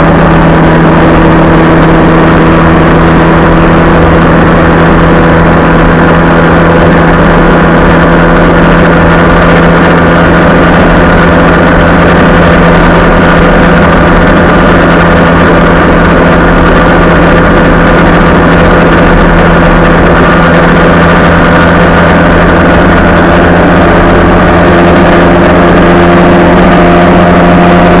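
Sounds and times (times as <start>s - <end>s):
motorcycle engine cruising: 0.0s - 28.0s
wind and road rush: 0.0s - 28.0s.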